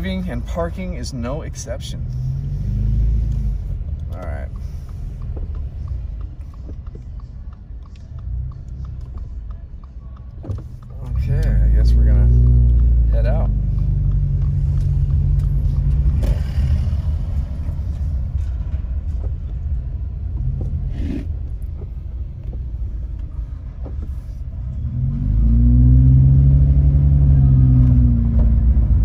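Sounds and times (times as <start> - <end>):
car engine: 0.0 - 29.0
road rumble: 0.0 - 29.0.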